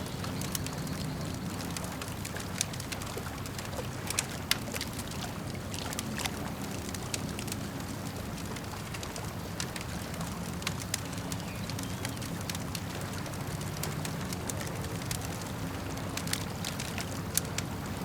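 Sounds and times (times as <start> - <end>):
campfire crackling and popping: 0.0 - 18.0
lake water lapping: 0.0 - 18.0.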